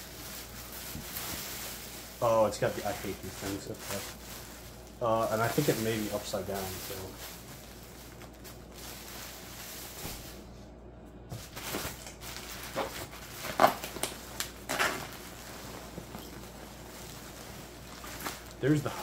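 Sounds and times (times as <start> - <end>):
packing peanuts rustling: 0.0 - 10.6, 11.3 - 19.0.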